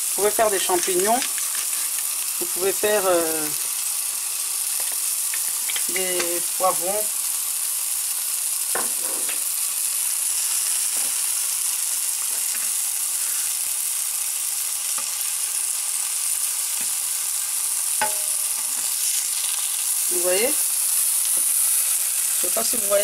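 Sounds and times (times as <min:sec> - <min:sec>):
food sizzling in grill pan: 0:00.0 - 0:23.0.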